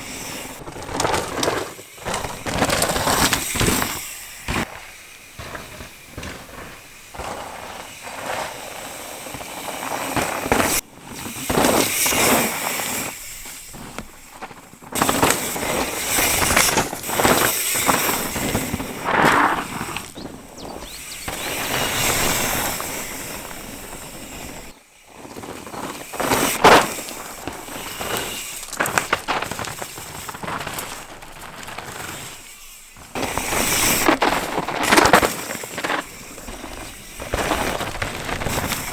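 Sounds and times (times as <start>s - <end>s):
bike knocking and rattling: 0.0s - 38.9s
bike tyres crunching on dirt: 0.0s - 38.9s.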